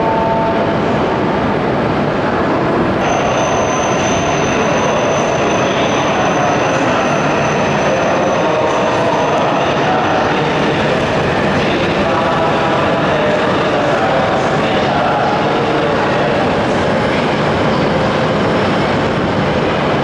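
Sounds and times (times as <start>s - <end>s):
high-speed train running: 0.0s - 20.0s.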